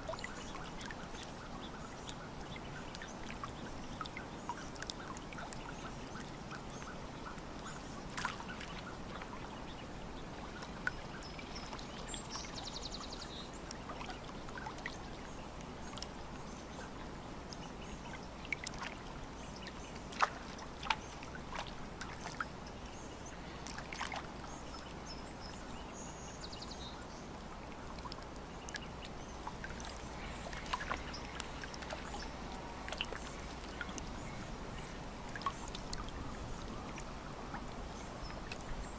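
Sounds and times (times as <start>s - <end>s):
small splashes and drips: 0.0s - 25.8s, 26.4s - 38.9s
lake water lapping at shore: 0.0s - 38.9s.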